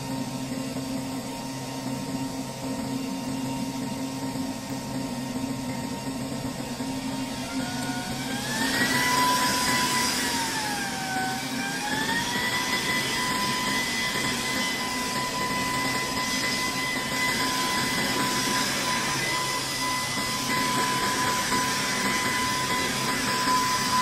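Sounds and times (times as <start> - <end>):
small electric motor whine: 0.0 - 24.0.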